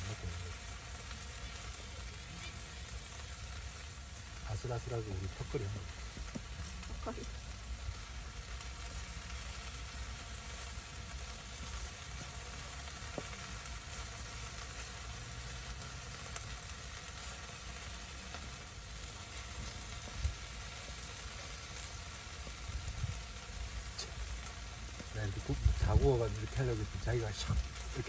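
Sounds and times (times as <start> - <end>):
meat sizzling in a pan: 0.0 - 28.0
small frying pops: 0.0 - 28.0.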